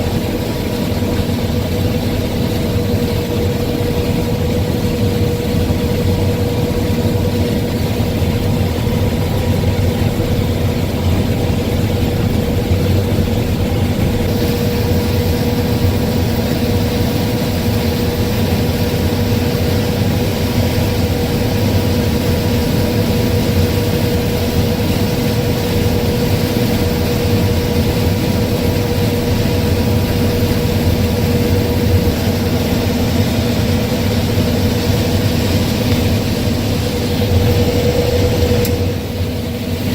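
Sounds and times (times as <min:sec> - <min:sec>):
combine harvester engine rumble: 0:00.0 - 0:39.9.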